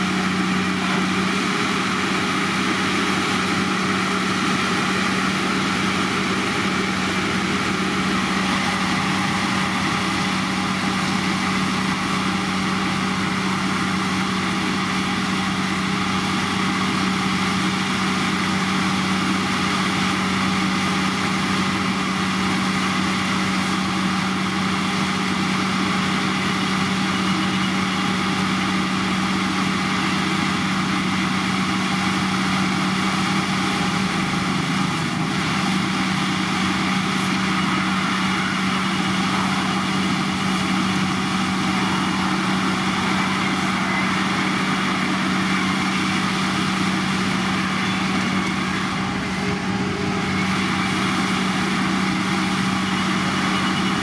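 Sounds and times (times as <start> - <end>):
diesel engine running steadily: 0.0 - 54.0.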